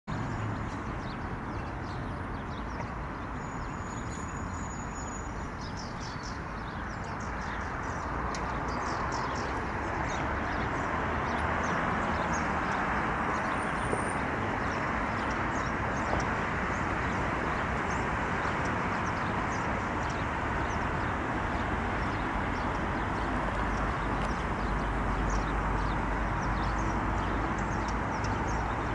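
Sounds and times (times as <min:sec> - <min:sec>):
small birds chirping: 0:00.1 - 0:28.9.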